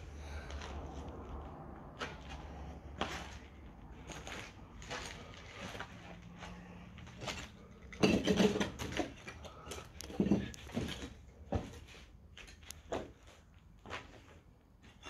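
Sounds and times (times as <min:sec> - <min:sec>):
footsteps on rubble: 0:01.9 - 0:15.0.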